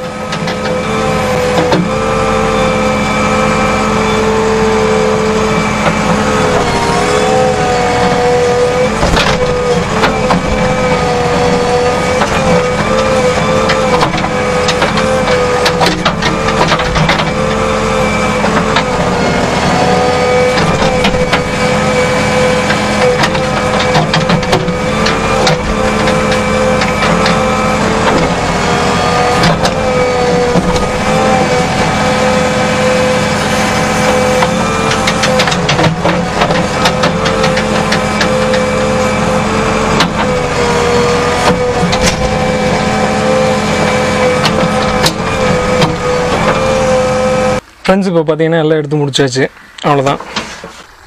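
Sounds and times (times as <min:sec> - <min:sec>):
diesel engine under load: 0:00.0 - 0:51.0
knocks and scrapes: 0:05.2 - 0:47.6.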